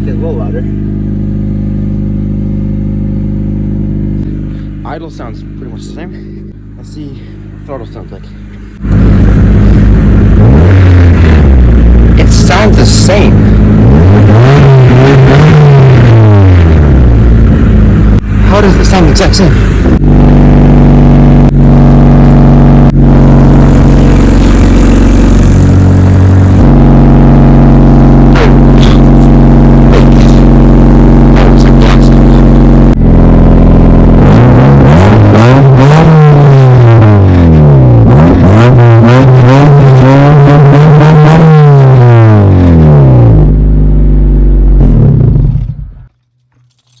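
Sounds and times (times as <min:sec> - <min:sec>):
car engine without muffler revving: 0:00.0 - 0:47.0.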